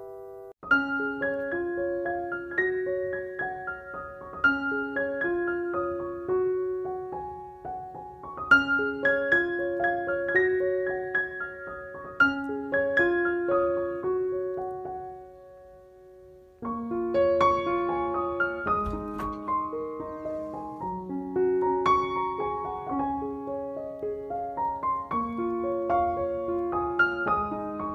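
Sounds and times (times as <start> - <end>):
gentle piano melody: 0.0 - 27.9.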